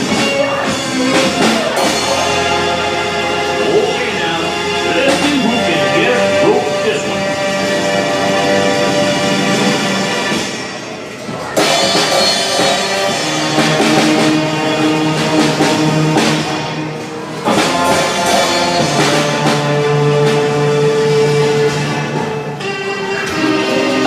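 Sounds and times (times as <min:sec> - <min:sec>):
classical piece with rock drums: 0:00.0 - 0:24.0.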